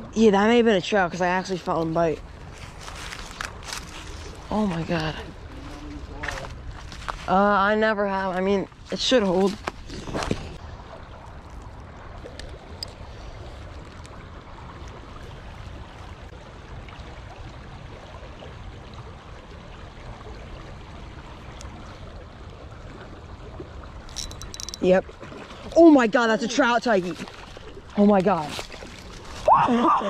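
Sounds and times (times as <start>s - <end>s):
stream water running: 0.0s - 30.0s.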